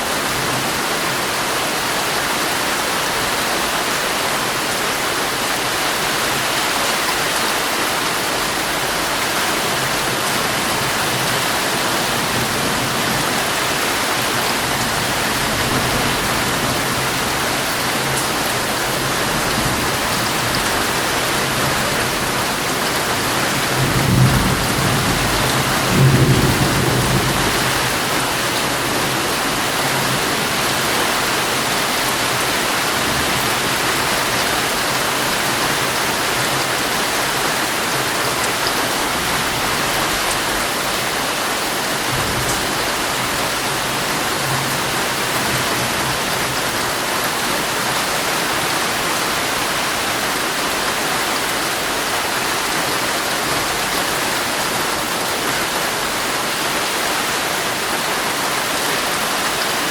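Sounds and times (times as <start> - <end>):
heavy rain on a tent: 0.0 - 59.9.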